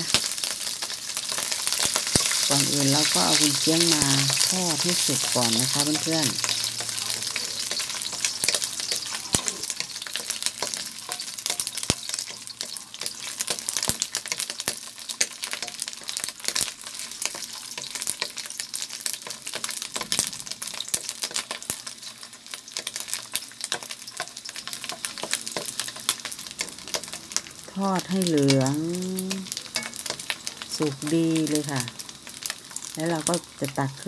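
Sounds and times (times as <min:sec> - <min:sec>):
spatula scraping wok: 0:00.0 - 0:28.7, 0:29.4 - 0:33.0
sausage sizzling in hot oil: 0:00.0 - 0:34.0.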